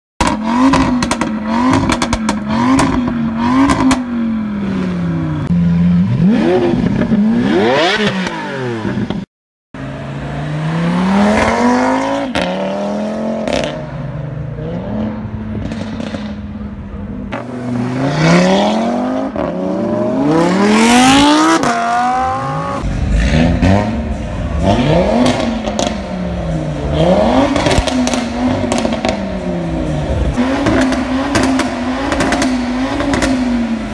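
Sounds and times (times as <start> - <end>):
car engine revving: 0.2 - 9.2, 9.8 - 33.9.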